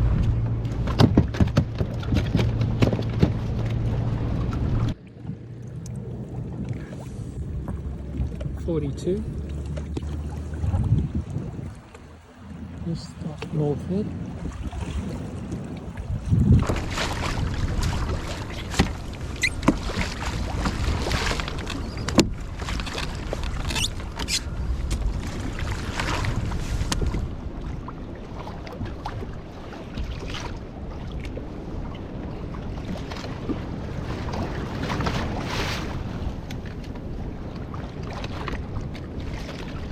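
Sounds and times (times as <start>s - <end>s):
water slapping against boat hull: 0.0s - 39.9s
wind buffeting microphone: 0.0s - 39.9s.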